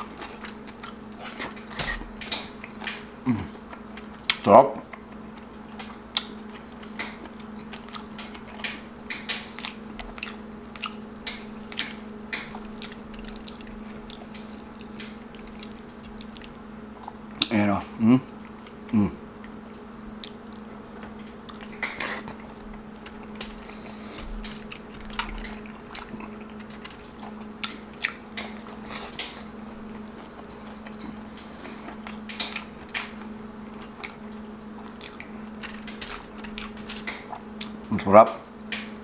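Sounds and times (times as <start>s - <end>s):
chewing meat: 0.0s - 38.9s
steady low hum: 0.0s - 39.0s.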